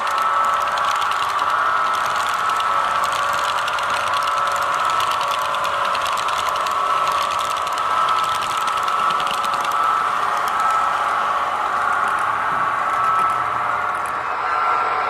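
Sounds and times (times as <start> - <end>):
model train wheels clicking: 0.0 - 14.3
steady whine: 0.0 - 15.0.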